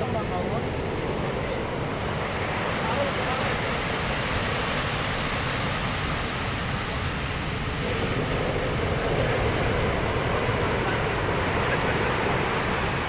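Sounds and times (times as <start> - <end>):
ocean waves breaking: 0.0 - 13.0
wind buffeting microphone: 0.2 - 13.0.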